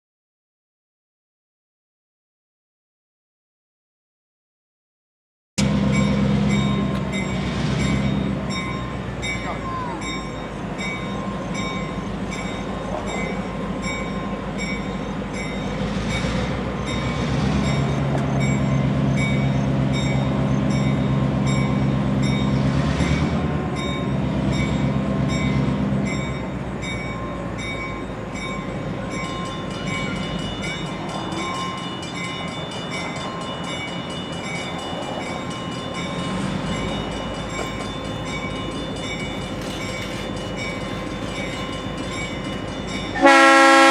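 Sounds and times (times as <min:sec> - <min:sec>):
diesel locomotive engine: 0:05.6 - 0:43.9.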